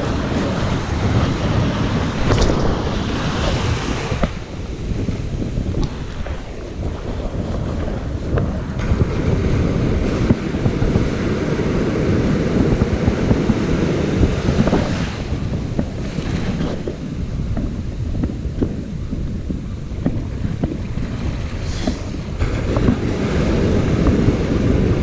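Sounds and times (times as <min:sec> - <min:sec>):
waves breaking: 0:00.0 - 0:25.0
wind buffeting microphone: 0:00.0 - 0:25.0.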